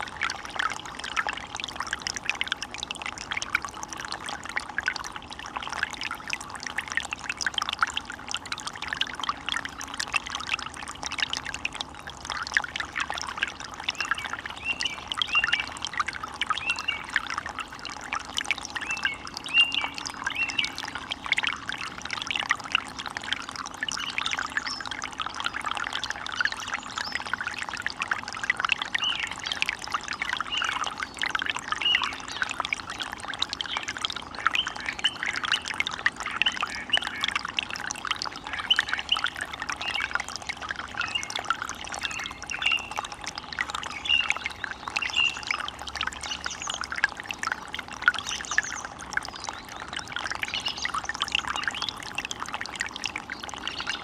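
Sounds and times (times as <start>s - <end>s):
stream water trickling over stones: 0.0s - 54.0s.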